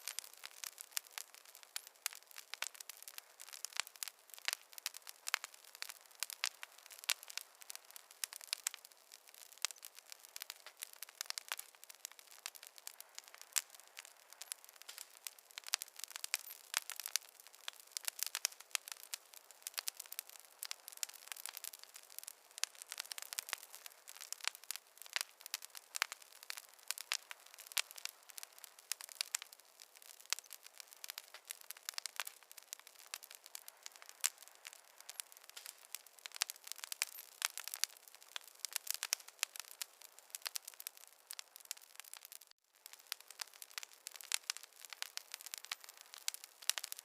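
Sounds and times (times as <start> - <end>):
fireplace fire crackling: 0.0 - 47.0.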